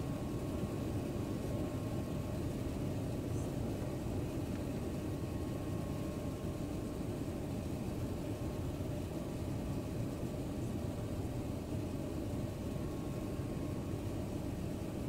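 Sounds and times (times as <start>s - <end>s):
airliner engines and airflow rumble: 0.0s - 15.0s
faint steady whine: 0.0s - 15.0s.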